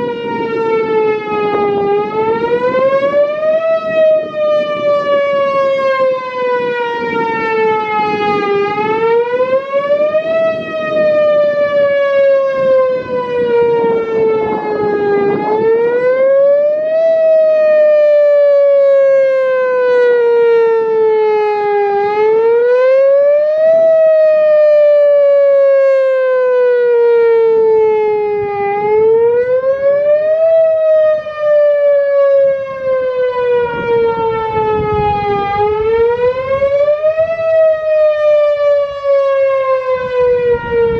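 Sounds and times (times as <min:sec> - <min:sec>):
tornado siren wailing: 0:00.0 - 0:40.9.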